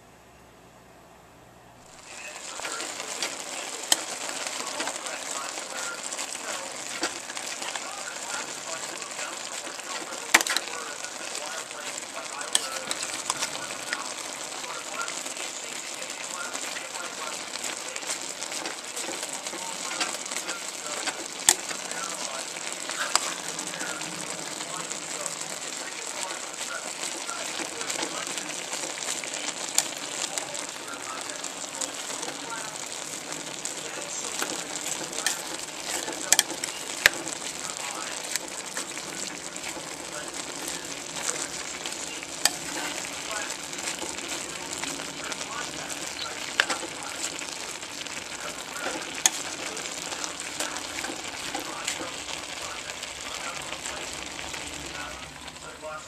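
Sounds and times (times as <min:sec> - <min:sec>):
meat and onions sizzling: 0:01.8 - 0:56.0
spatula scraping and clicking: 0:02.5 - 0:14.2, 0:16.4 - 0:52.4.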